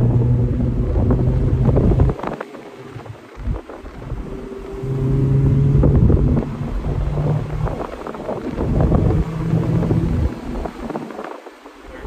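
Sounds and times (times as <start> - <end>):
car engine running: 0.0 - 12.0
wind buffeting microphone: 0.0 - 12.0.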